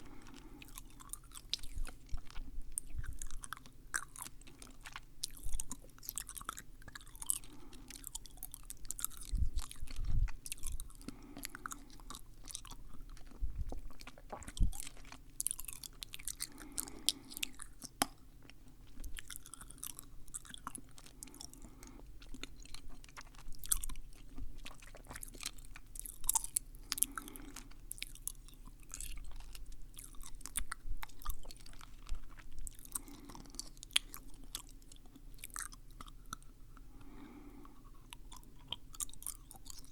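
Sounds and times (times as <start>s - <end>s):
wet lip and tongue clicks: 0.1s - 39.9s.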